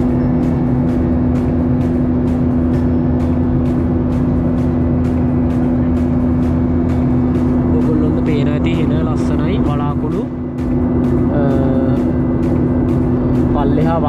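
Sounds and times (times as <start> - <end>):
background music with steady beat: 0.0 - 14.0
jet engines droning in cabin: 0.0 - 14.0.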